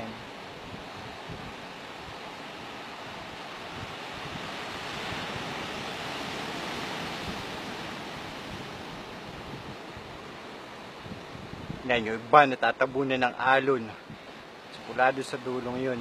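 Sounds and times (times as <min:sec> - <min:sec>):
sea surf washing: 0:00.0 - 0:16.0
wind: 0:00.0 - 0:16.0.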